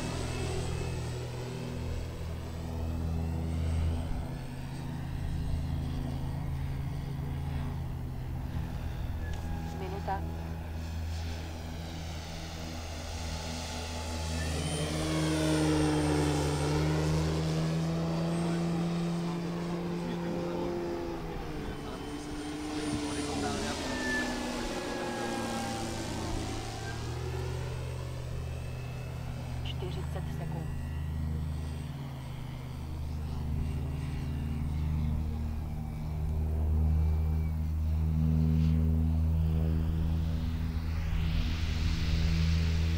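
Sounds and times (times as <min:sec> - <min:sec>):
model plane propeller hum: 0:00.0 - 0:42.9.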